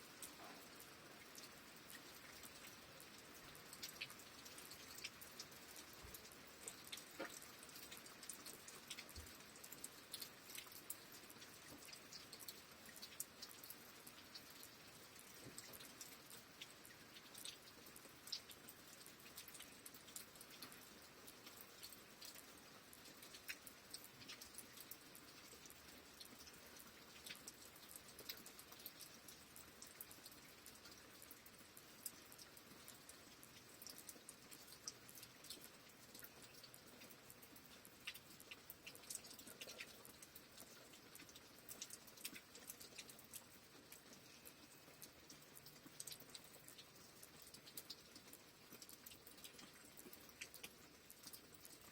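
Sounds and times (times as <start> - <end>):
rain drops ticking and dripping: 0.0 - 51.9
soft rain hiss: 0.0 - 51.9.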